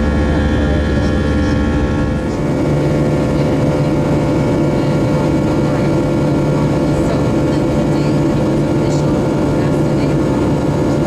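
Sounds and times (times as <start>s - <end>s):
jet engine drone in cabin: 0.0s - 11.0s.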